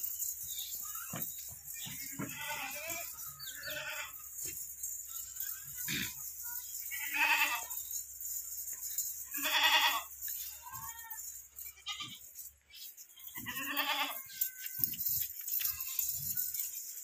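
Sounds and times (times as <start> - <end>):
goat kids bleating: 0.3 - 8.1, 8.7 - 17.0.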